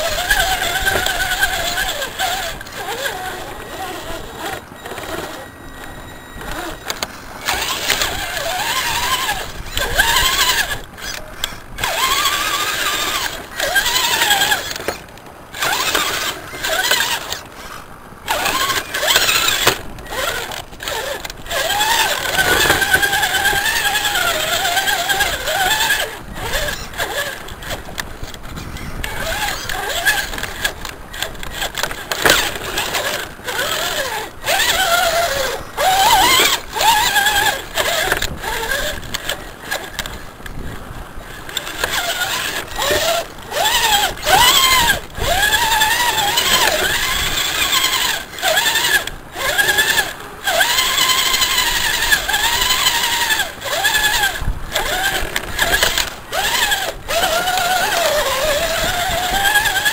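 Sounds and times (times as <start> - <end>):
rc truck electric motor whining: 0.0 - 59.9.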